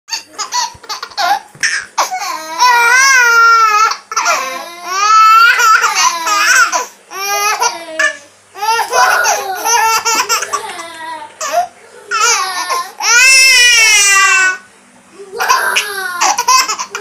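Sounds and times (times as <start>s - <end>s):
toddler laughing in squeals: 0.1s - 14.6s.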